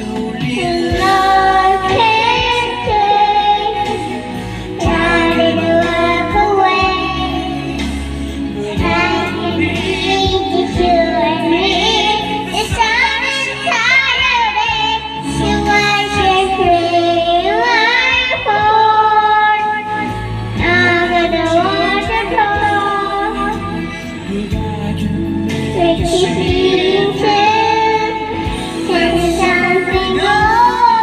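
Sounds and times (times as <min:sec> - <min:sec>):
girl singing into microphone: 0:00.0 - 0:25.0, 0:25.6 - 0:31.0
backing music: 0:00.0 - 0:31.0.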